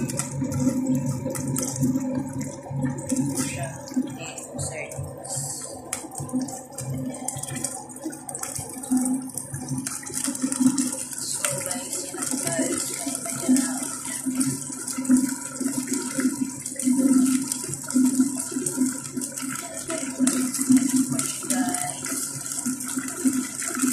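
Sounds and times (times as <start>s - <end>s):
sauce bubbling in pot: 0.0s - 23.9s.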